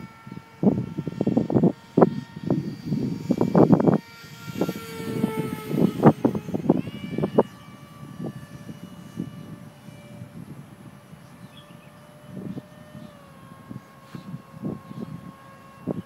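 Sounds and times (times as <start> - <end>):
electric rc jet whine: 0.0 - 16.0.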